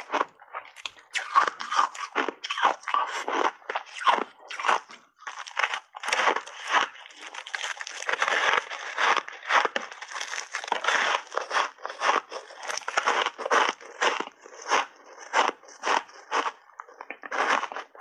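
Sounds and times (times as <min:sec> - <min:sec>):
ice being bitten and chewed: 0:00.0 - 0:18.0.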